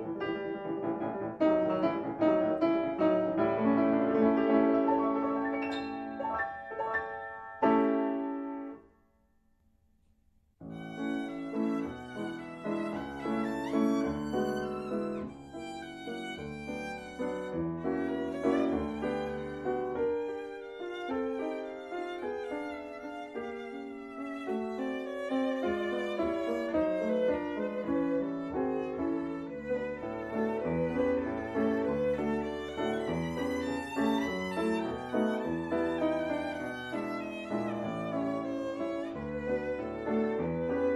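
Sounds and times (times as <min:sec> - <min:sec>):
lively violin melody: 0:00.0 - 0:08.2, 0:10.7 - 0:40.9.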